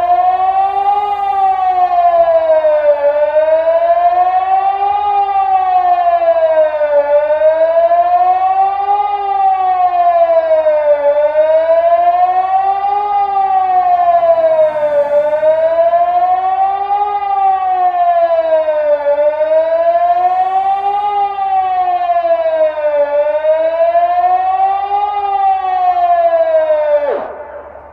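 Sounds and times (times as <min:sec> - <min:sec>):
wailing siren: 0:00.0 - 0:27.9.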